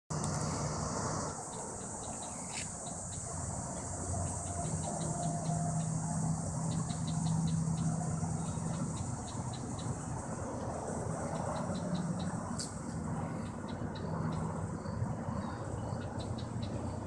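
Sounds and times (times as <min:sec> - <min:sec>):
diesel locomotive drone: 0:00.1 - 0:17.0
insects buzzing and chirping: 0:00.1 - 0:17.0.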